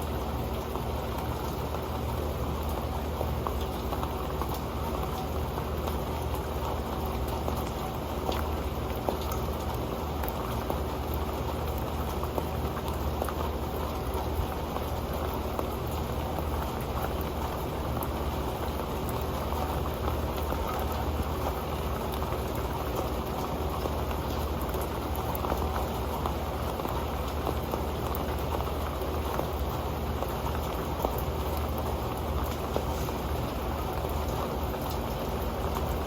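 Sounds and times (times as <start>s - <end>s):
rain tapping on a metal pan: 0.0s - 36.0s.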